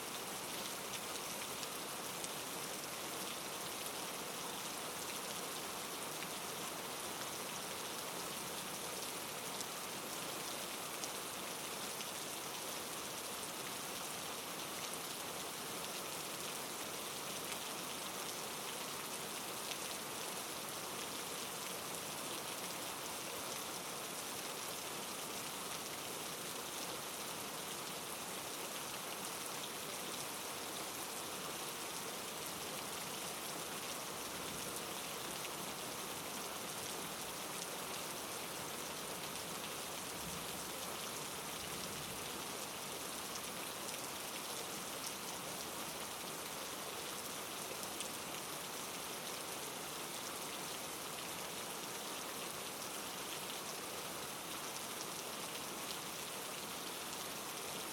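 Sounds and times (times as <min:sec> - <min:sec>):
rain falling on a surface: 0:00.0 - 0:57.9.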